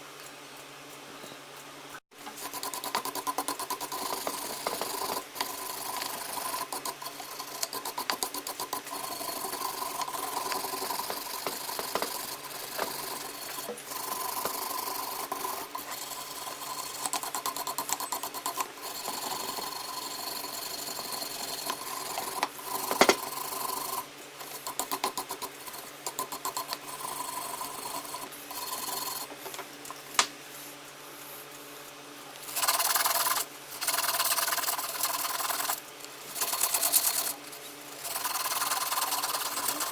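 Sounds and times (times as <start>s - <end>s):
electric tool grinding metal: 2.3s - 29.4s, 32.4s - 39.9s.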